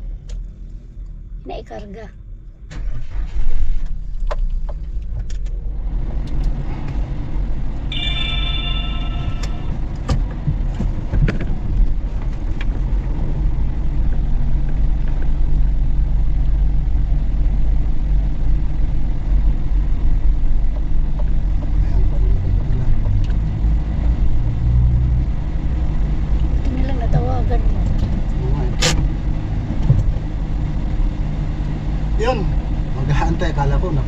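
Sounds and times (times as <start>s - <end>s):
vehicle rumble inside cab: 0.0s - 34.0s.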